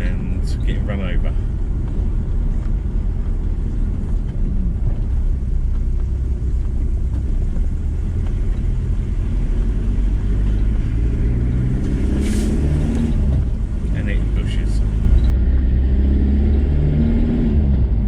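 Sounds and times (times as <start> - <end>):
van engine and road noise: 0.0 - 18.0.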